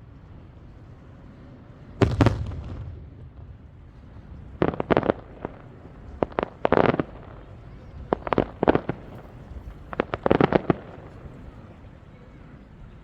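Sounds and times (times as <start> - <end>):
fireworks booming: 0.0 - 11.8
fireworks cracking: 0.8 - 11.7.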